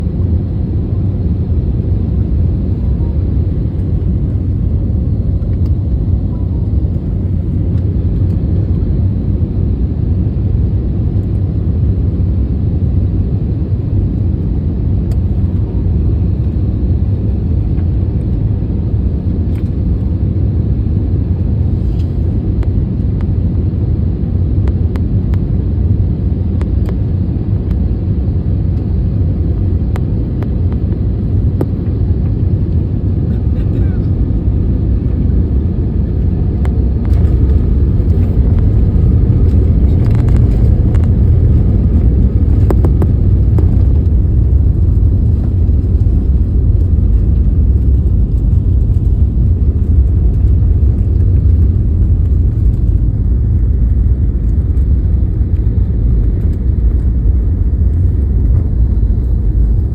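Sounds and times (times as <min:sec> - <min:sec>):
airliner engines rumbling in cabin: 0:00.0 - 0:59.9.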